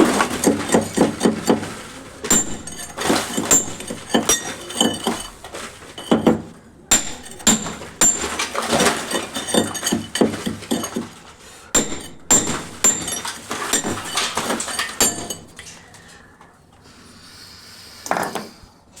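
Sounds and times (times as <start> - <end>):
hard objects clinking: 0.0 - 15.9.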